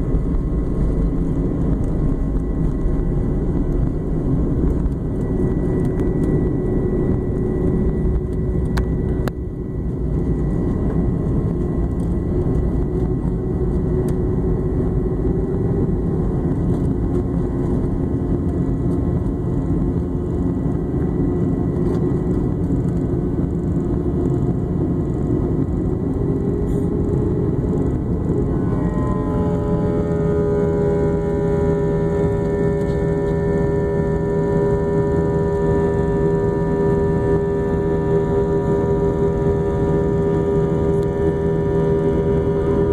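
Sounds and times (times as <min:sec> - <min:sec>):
airliner engines and rushing air: 0:00.0 - 0:42.9
steady hum with tones: 0:00.0 - 0:42.9.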